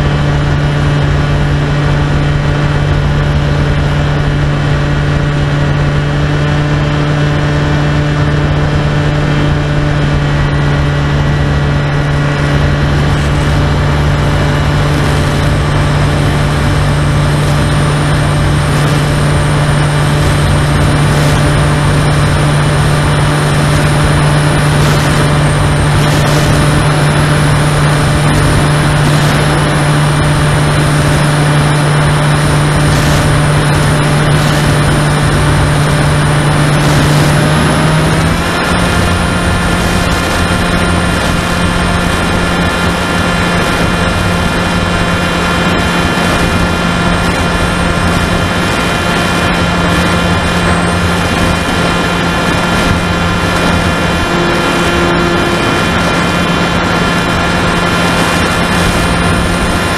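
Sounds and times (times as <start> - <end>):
electric motor hum and whine: 0.0 - 59.9
rush of air noise: 0.0 - 59.9.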